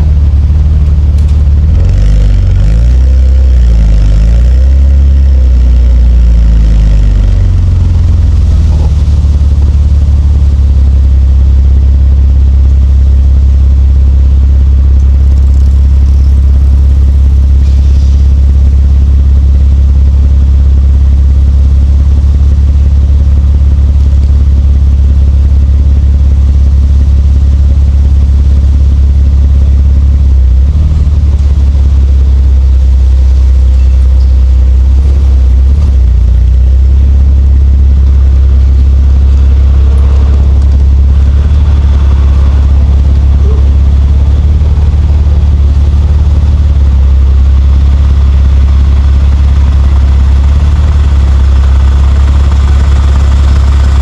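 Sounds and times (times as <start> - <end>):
car engine low drone: 0.0 - 54.0.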